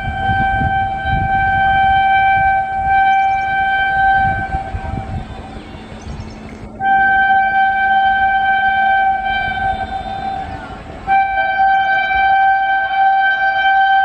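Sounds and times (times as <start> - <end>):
train horn blast: 0.0 - 14.0
train rumble: 0.0 - 14.0.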